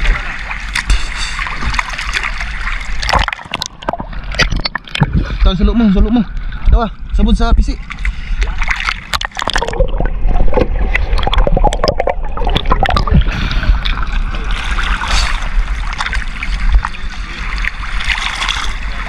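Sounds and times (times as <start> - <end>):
water splashing around boat: 0.0 - 19.0.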